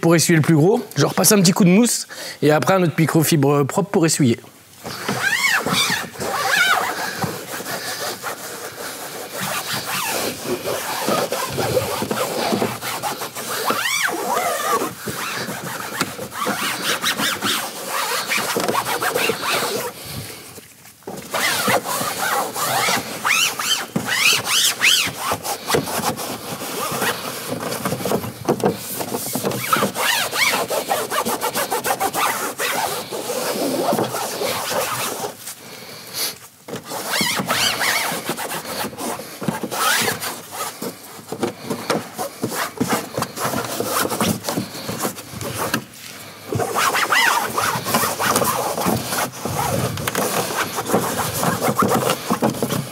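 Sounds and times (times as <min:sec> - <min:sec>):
cloth scrubbing plastic: 0:04.2 - 0:52.9.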